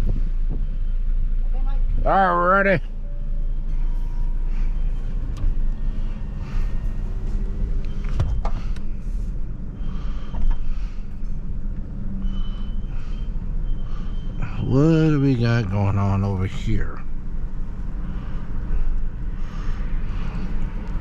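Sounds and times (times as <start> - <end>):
pickup truck engine rumble: 0.0 - 21.0.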